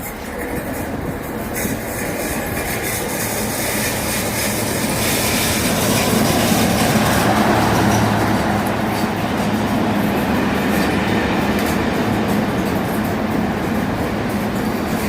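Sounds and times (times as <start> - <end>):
diesel locomotive engine hum: 0.0 - 15.0
train rail noise: 0.0 - 15.0.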